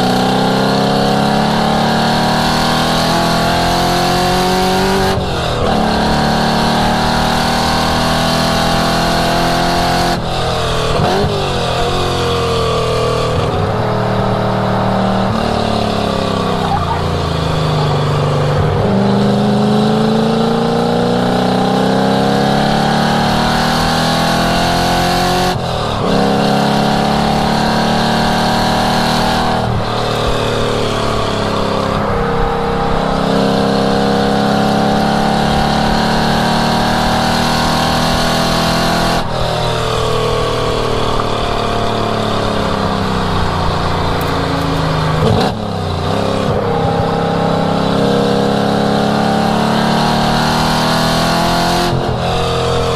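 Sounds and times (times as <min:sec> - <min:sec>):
car engine revving hard: 0:00.0 - 0:52.9.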